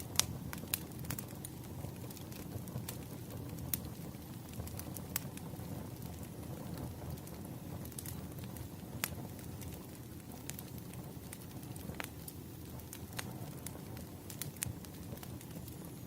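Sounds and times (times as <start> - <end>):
burning wood popping: 0.0 - 16.0
campfire crackling: 0.0 - 16.0.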